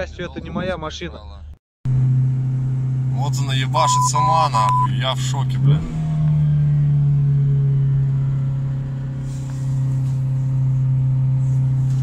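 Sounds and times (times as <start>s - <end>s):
car engine high idle drone: 1.9s - 12.0s.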